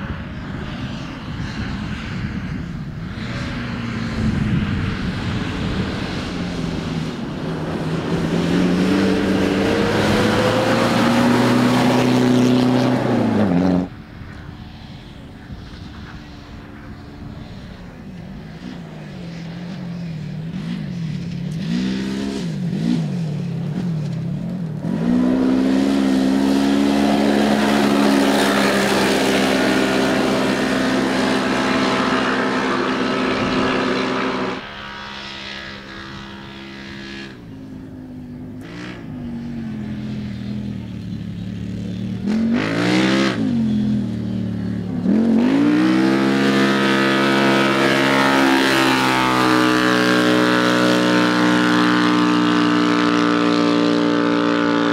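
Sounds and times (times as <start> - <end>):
buggy engines revving: 2.8 - 15.5, 16.2 - 54.9.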